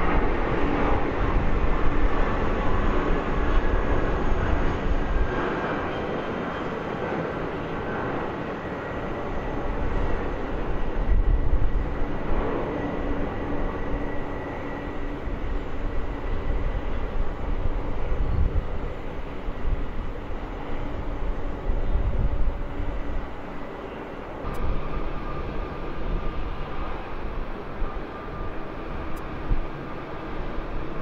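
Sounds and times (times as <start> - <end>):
jet engines rumbling with whine: 0.0 - 31.0.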